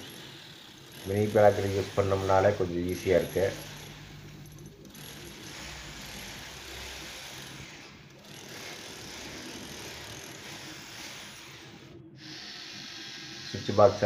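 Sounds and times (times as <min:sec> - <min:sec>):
angle grinder cutting metal: 0:00.0 - 0:14.0.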